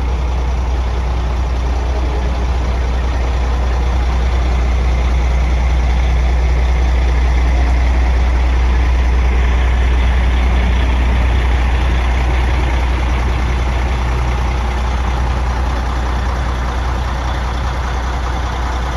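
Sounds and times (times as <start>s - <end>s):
diesel truck engine idling: 0.0s - 18.9s.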